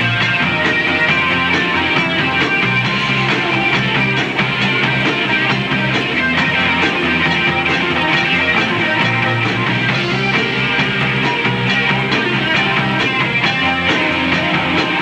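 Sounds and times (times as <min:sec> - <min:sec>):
electric guitar: 0:00.0 - 0:15.0
steady drum beat: 0:00.0 - 0:15.0.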